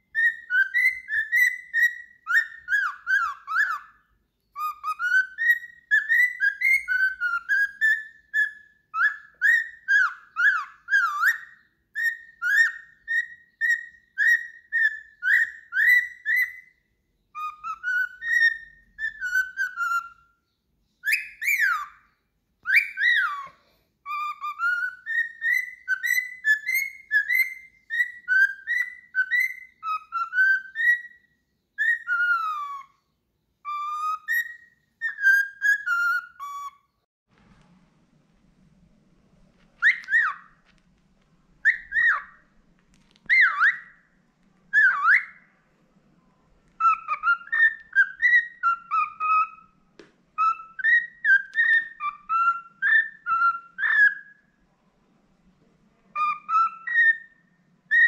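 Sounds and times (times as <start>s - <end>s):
cockatiel whistling: 0.0s - 37.0s, 39.8s - 40.7s, 41.6s - 42.5s, 43.2s - 44.1s, 44.7s - 45.6s, 46.8s - 49.8s, 50.4s - 54.5s, 56.1s - 58.0s.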